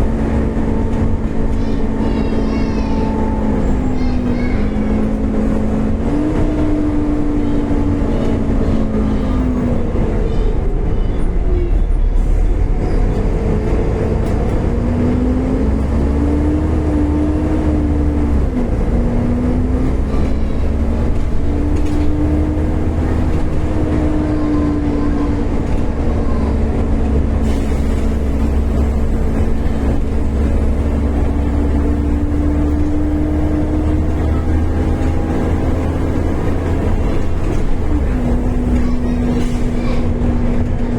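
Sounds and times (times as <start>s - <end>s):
bus drivetrain whine: 0.0s - 40.9s
low engine drone: 0.0s - 40.9s.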